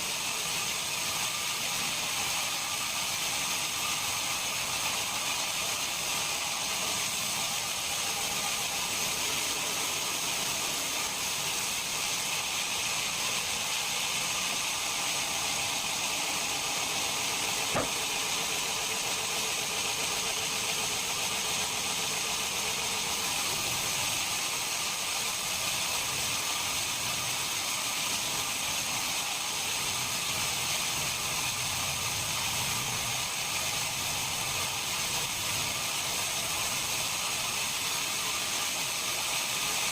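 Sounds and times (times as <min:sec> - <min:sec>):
machine hiss with faint whine: 0:00.0 - 0:39.9.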